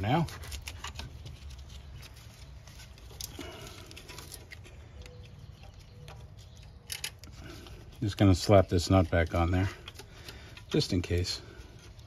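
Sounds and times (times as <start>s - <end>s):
gloved hand rustling wiring: 0.0s - 12.0s.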